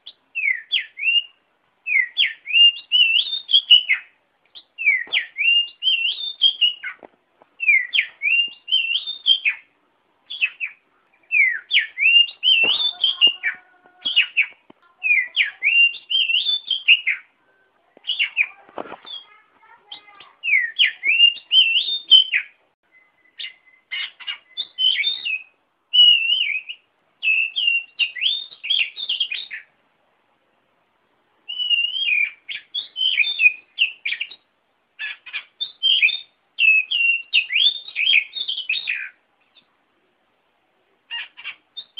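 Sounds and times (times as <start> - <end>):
bird whistling song: 0.0 - 9.7, 10.3 - 17.3, 18.0 - 29.7, 31.5 - 39.7, 41.1 - 41.9.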